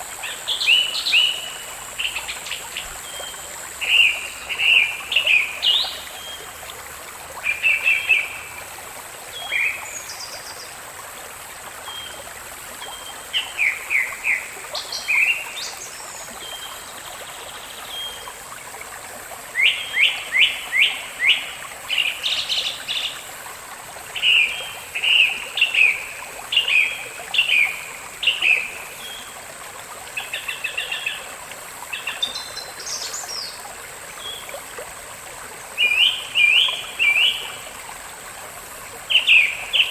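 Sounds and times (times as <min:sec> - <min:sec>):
faint high hiss: 0:00.0 - 0:39.9.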